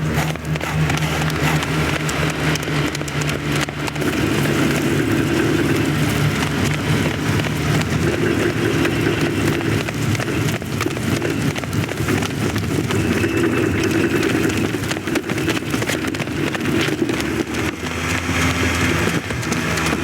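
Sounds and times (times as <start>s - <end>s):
vehicle engine drone: 0.0s - 20.0s.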